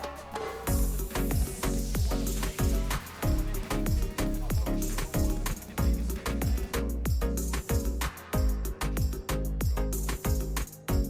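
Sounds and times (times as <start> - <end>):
background music with kick drum: 0.0 - 11.0.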